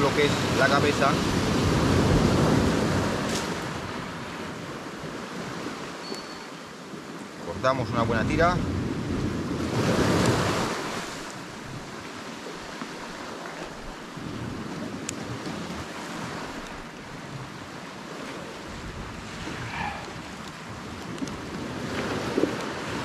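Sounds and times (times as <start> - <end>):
wind buffeting microphone: 0.0 - 6.0, 6.9 - 23.0
sea water lapping: 0.0 - 23.0.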